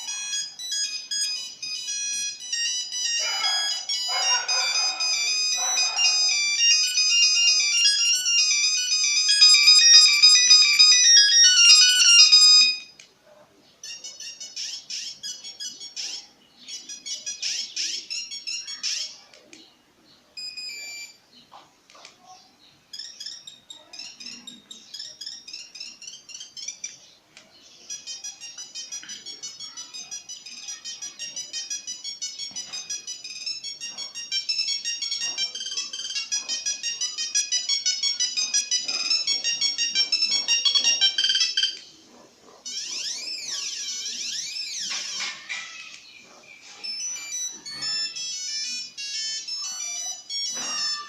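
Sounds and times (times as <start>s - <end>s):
mobile phone ringtone melodies: 0.0s - 13.0s, 13.8s - 19.3s, 20.4s - 21.2s, 22.9s - 51.0s.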